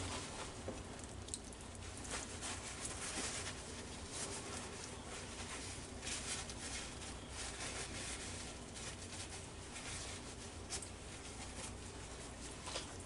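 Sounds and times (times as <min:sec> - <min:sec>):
paper towel rustling: 0:00.0 - 0:00.9, 0:01.7 - 0:13.0.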